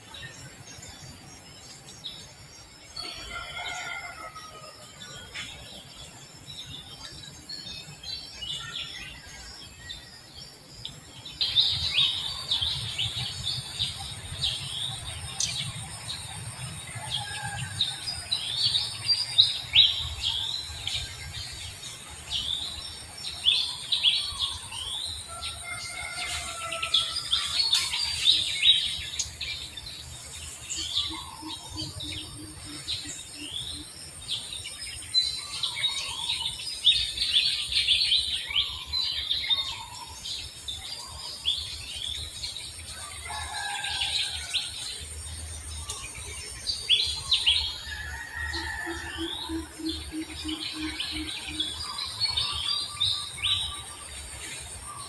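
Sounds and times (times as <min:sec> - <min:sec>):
small birds chirping: 0:05.1 - 0:55.0.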